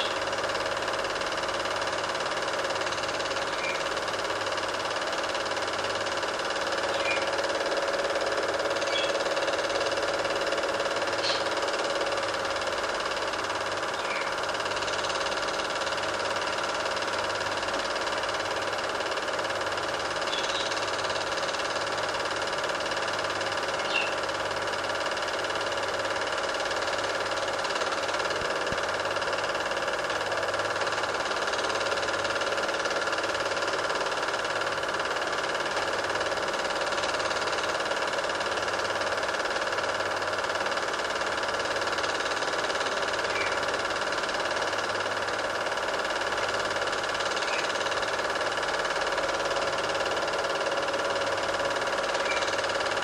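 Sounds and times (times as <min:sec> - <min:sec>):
film projector whirring: 0:00.0 - 0:53.0.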